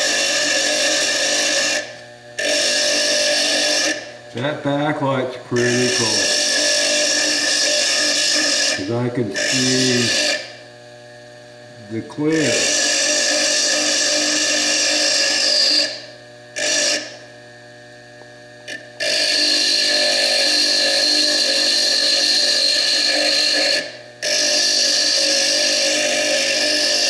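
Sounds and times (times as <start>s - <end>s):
lathe grinding whine: 0.0s - 27.0s.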